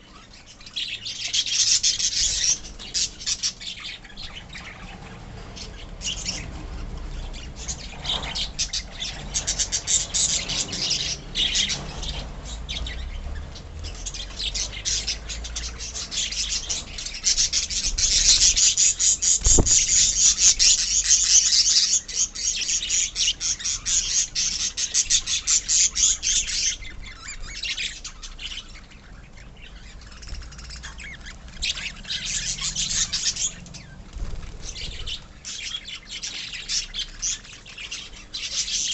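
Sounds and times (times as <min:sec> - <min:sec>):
lovebirds chattering and squawking: 0:00.0 - 0:38.9.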